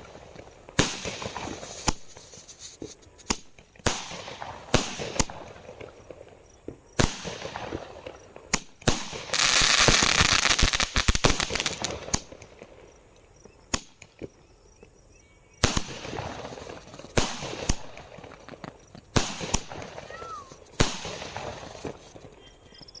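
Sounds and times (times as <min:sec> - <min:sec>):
fireworks bangs: 0:00.0 - 0:12.8, 0:15.6 - 0:22.6
fireworks crackling: 0:00.0 - 0:12.8, 0:15.6 - 0:22.7.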